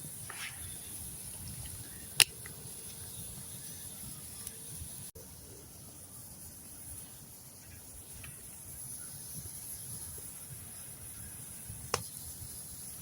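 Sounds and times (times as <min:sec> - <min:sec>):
sharp fire crackle: 0:00.0 - 0:05.1, 0:06.9 - 0:13.0
campfire hissing: 0:00.0 - 0:13.0.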